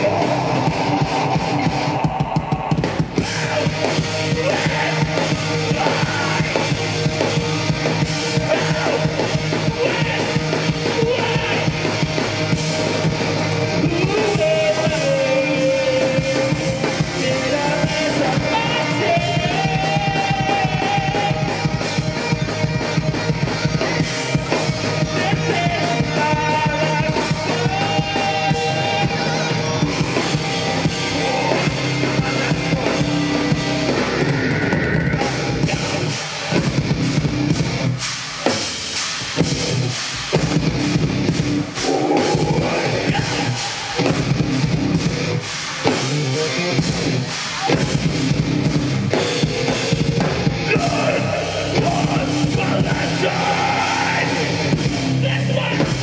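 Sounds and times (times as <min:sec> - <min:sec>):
vocalist singing and yelling: 0:00.0 - 0:36.8, 0:41.7 - 0:44.7, 0:49.1 - 0:56.0
heavy rock band playing: 0:00.0 - 0:56.0.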